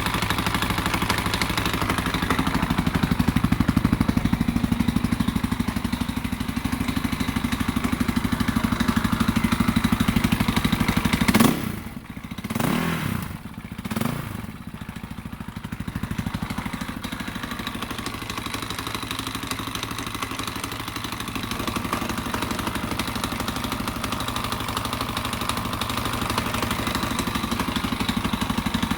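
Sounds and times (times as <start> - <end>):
dirt bike engine knocking: 0.0 - 28.9.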